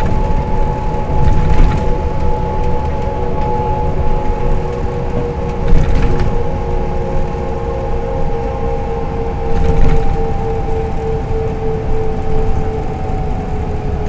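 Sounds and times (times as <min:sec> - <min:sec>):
bus engine and road rumble: 0:00.0 - 0:14.0
steady whine: 0:00.0 - 0:14.0.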